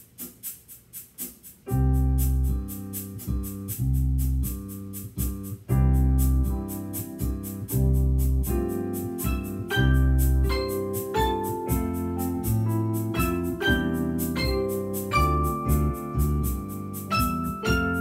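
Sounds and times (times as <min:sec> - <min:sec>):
ticking percussion beat: 0:00.0 - 0:18.0
piano chords and melody: 0:01.7 - 0:03.8, 0:05.2 - 0:18.0.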